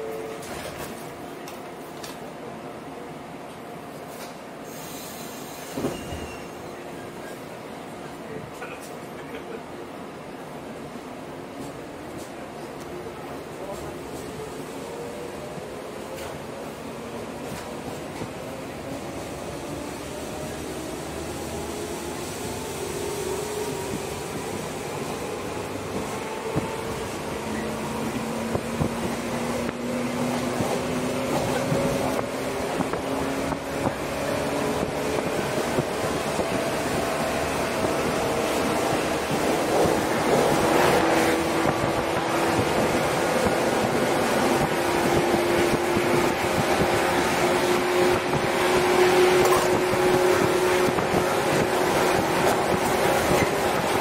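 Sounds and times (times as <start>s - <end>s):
wheels on rail: 0.0s - 54.0s.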